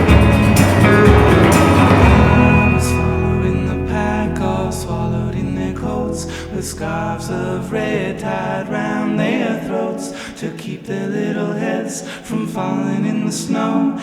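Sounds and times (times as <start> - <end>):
guitar: 0.0 - 14.0
layered vocal harmonies: 0.0 - 14.0.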